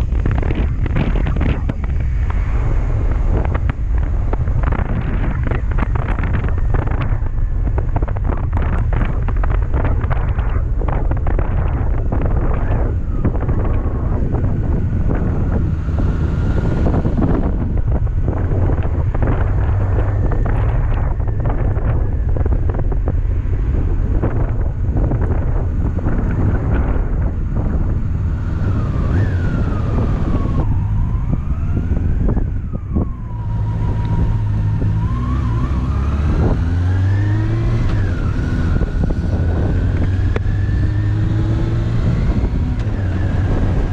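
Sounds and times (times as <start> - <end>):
wind noise on microphone: 0.0 - 43.9
motorcycle engine revving: 7.9 - 43.9.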